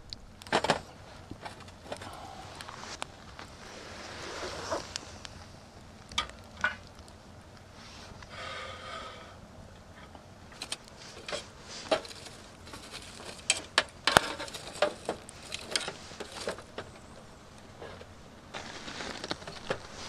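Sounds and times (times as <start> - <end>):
campfire crackling and popping: 0.0 - 8.4, 9.5 - 20.0.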